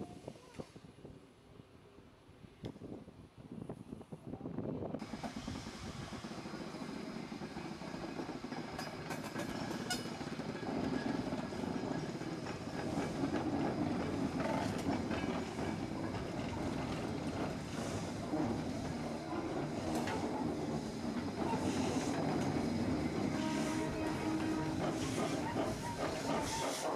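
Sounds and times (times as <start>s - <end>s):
hissing steam: 5.0s - 26.9s
steam locomotive exhaust: 5.0s - 26.9s.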